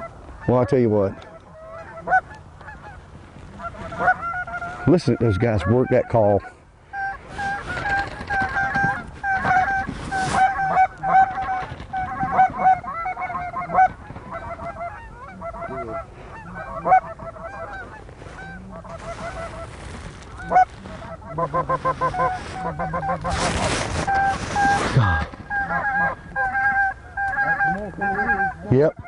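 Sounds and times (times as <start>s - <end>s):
geese honking overhead: 0.0s - 29.0s
goose calls honking and clucking: 0.0s - 29.0s.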